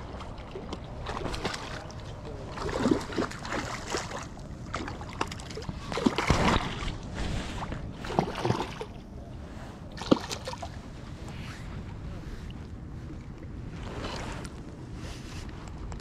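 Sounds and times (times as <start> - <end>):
water splashing and sloshing: 0.0 - 16.0
wind rumble on microphone: 0.0 - 16.0.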